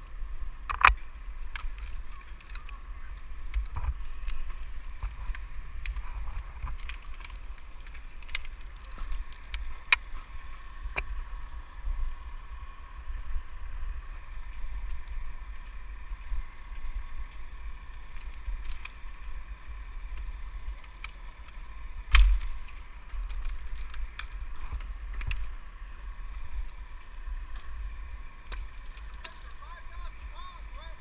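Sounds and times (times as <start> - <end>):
faint steady hum: 0.0 - 31.0
wind rumble on microphone: 0.0 - 31.0.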